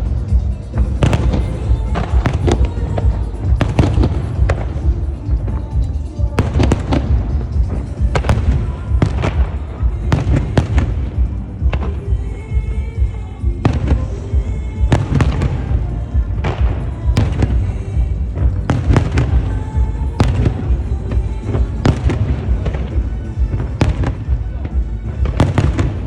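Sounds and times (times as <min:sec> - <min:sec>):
deep rumble: 0:00.0 - 0:26.0
fireworks bangs and crackles: 0:00.0 - 0:26.0
music playing: 0:00.0 - 0:26.0.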